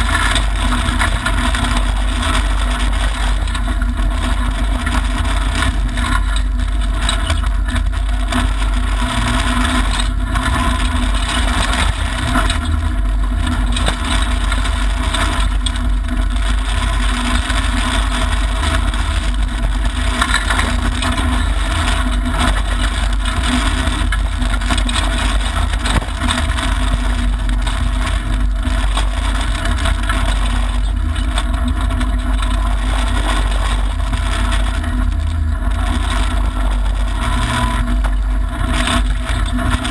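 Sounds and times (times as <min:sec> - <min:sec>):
rally car engine running hard: 0:00.0 - 0:39.9
stones ticking: 0:00.0 - 0:39.9
tyre and gravel noise: 0:00.0 - 0:39.9.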